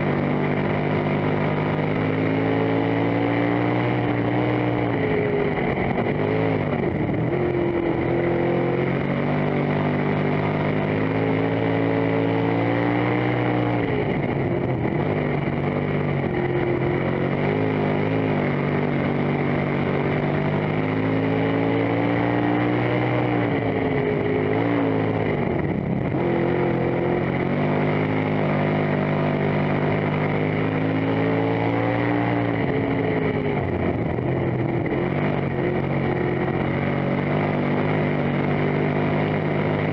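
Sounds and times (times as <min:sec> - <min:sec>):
race car engine revving: 0:00.0 - 0:39.9
wind and chassis noise: 0:00.0 - 0:39.9.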